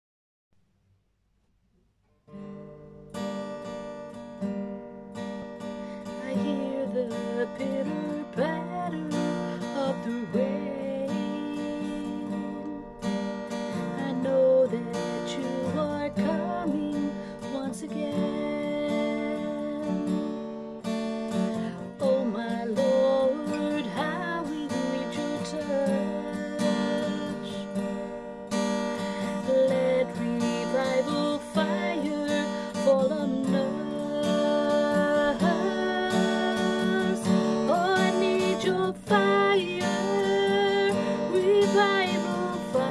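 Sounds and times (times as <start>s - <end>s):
acoustic guitar strumming: 2.2s - 42.9s
woman singing: 6.0s - 28.2s, 28.8s - 42.9s.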